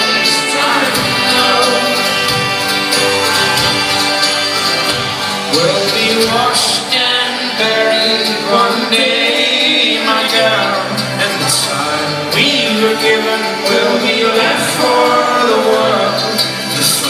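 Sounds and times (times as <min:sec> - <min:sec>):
band music with singing: 0:00.0 - 0:17.0.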